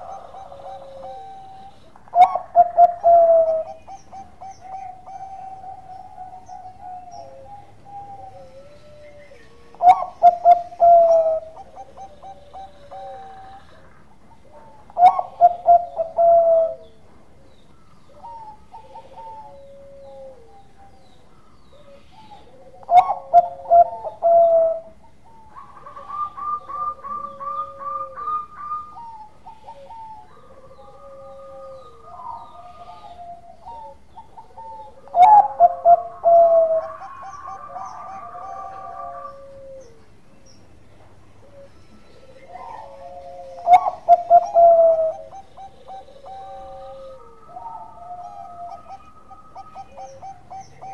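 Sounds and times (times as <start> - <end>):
bird song with falling trill: 0.0 - 50.9
doves cooing: 0.0 - 50.9.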